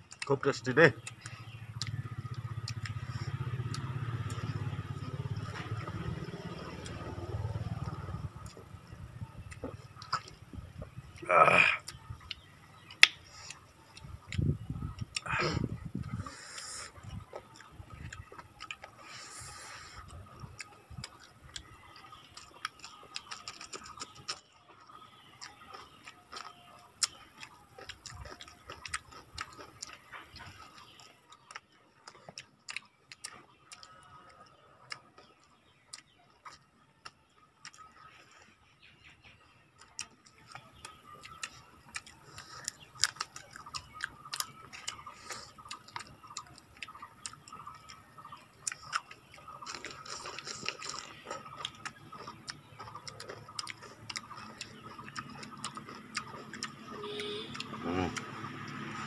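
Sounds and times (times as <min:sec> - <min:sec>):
people chewing and lip-smacking: 0:00.0 - 0:59.0.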